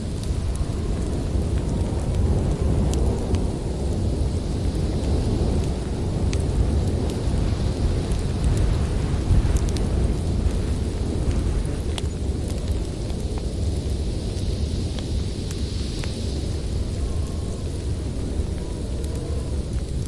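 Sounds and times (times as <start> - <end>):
storm wind rumble: 0.0 - 20.0
wood fire crackling: 0.0 - 20.0.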